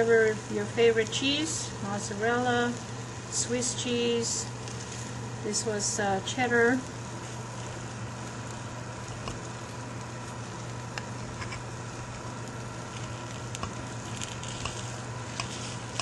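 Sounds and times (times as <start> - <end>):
quiche sizzling in its dish: 0.0 - 16.0
steady low hum: 0.0 - 16.0
small crackles: 0.2 - 16.0.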